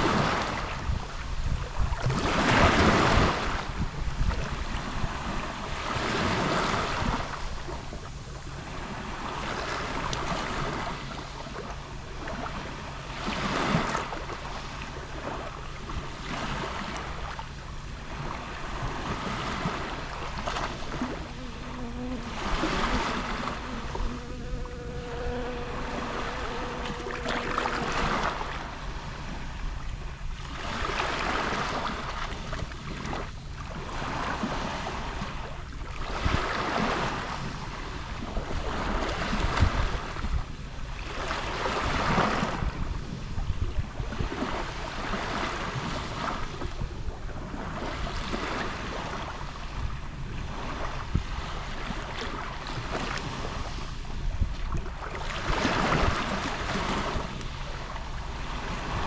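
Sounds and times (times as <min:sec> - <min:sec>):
sea waves lapping: 0:00.0 - 0:59.0.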